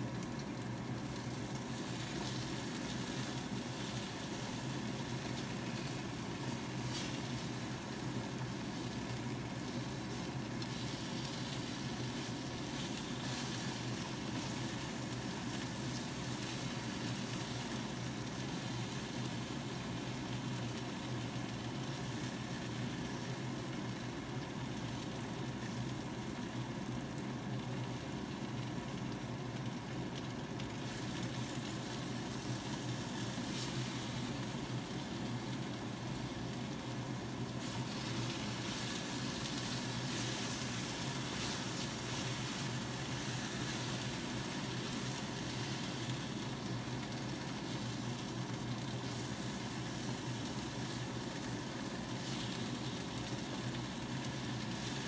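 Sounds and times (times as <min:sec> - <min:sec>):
food frying: 0:00.0 - 0:55.0
low mechanical hum: 0:00.0 - 0:55.0.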